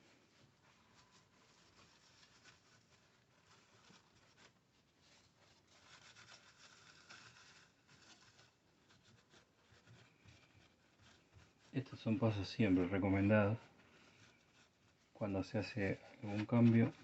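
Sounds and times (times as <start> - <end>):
paper towel rubbing: 0.0 - 17.0.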